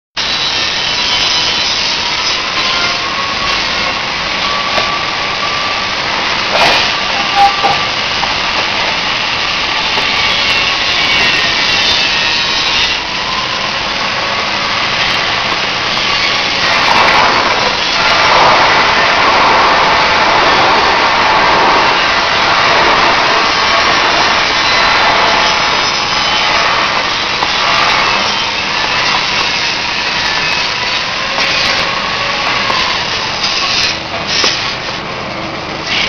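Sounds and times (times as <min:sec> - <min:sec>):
roasting machine whirring: 0:00.2 - 0:36.0.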